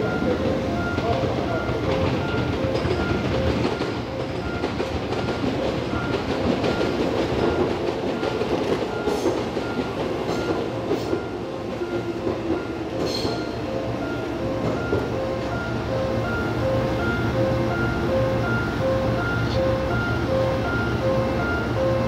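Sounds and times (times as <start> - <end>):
level crossing warning bell: 0.0 - 22.0
train rumble and wheel clatter: 0.0 - 22.0.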